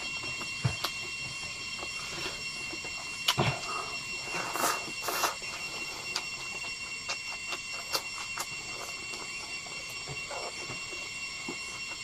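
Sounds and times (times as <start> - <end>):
high whine: 0.0 - 12.0
crunchy chewing: 1.8 - 12.0.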